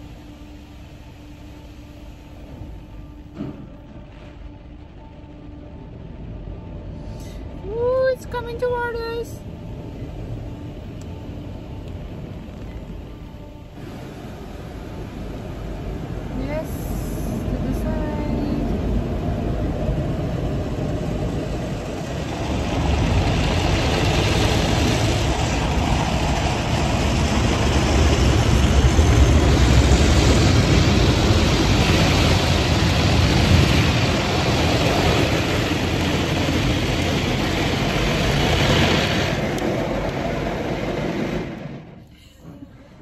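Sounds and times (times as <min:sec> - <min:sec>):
car wash machinery rushing: 0:00.0 - 0:43.0.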